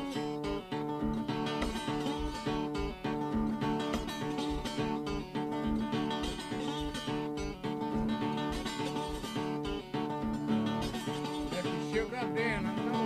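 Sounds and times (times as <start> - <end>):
acoustic blues guitar: 0.0 - 13.0.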